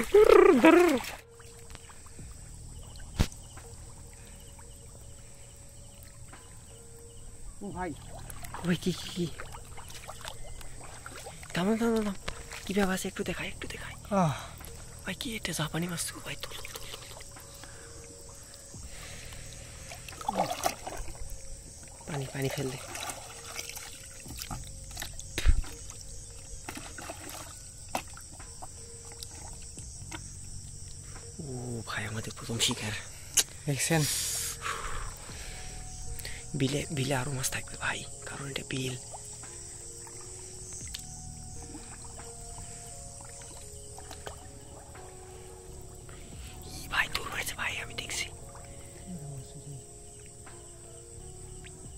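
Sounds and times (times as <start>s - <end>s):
water sloshing: 0.0s - 51.9s.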